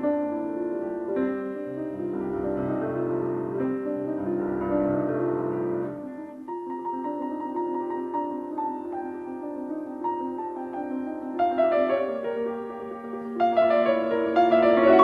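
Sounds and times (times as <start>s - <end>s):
solo classical piano: 0.0s - 15.0s.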